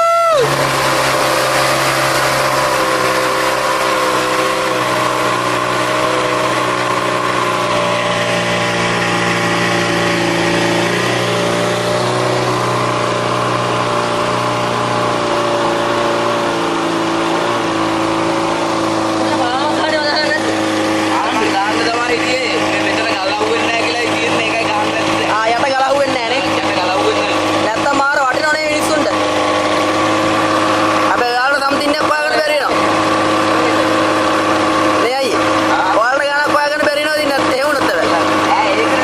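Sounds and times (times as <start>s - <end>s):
outboard motor running: 0.0s - 39.0s
water rushing along hull: 0.0s - 39.0s.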